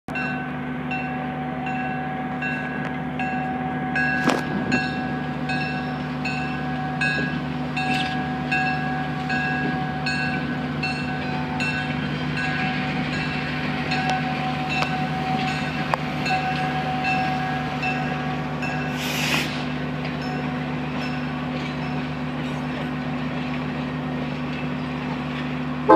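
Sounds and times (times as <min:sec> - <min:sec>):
diesel locomotive engine drone: 0:00.1 - 0:25.9
locomotive bell ringing: 0:00.1 - 0:25.9
train wheels clicking: 0:04.0 - 0:25.6.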